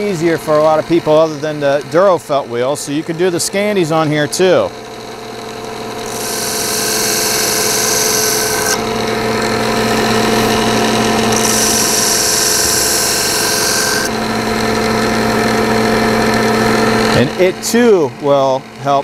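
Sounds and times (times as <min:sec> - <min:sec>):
belt sander running: 0:00.0 - 0:19.0.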